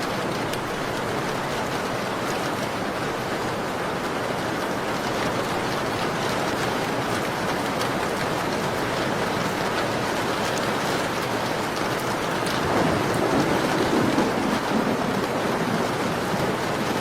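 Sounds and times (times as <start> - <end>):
rain on a window: 0.0 - 17.0.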